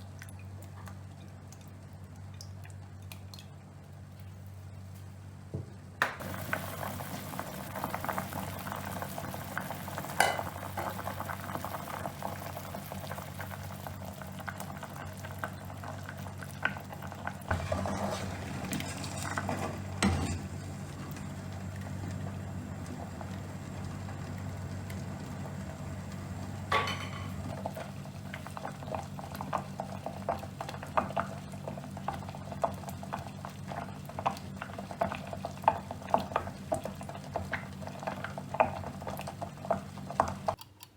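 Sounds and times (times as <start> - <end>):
range hood fan hum: 0.0 - 40.7
liquid bubbling at the boil: 6.2 - 40.6.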